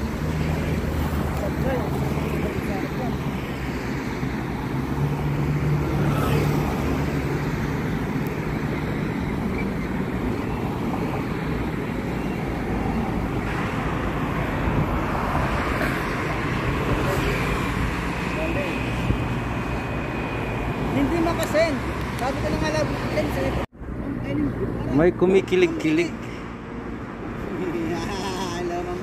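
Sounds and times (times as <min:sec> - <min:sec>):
low traffic rumble: 0:00.0 - 0:29.0
vehicles passing: 0:00.0 - 0:29.0.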